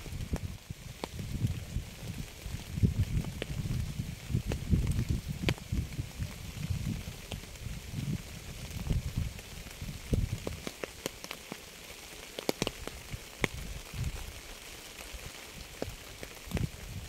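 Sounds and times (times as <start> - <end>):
faint rain hiss: 0.0 - 17.0
raindrops tapping hard surface: 0.0 - 17.0.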